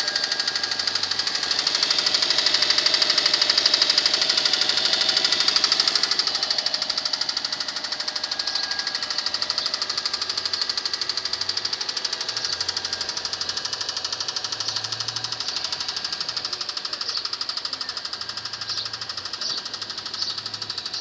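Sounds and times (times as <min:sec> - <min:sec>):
engine running with metallic knock: 0:00.0 - 0:21.0.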